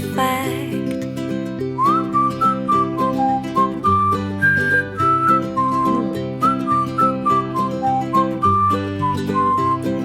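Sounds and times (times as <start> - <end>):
guitar accompaniment: 0.0 - 10.0
whistled melody: 1.6 - 10.0.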